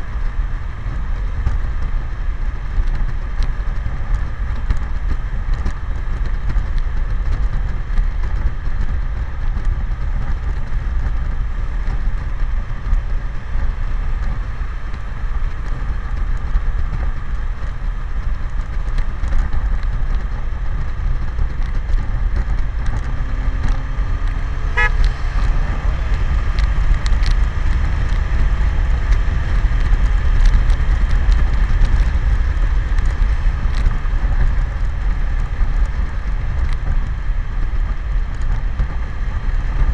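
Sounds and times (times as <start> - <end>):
motorcycle engine and road noise: 0.0 - 39.9
wind rushing over microphone: 0.0 - 39.9.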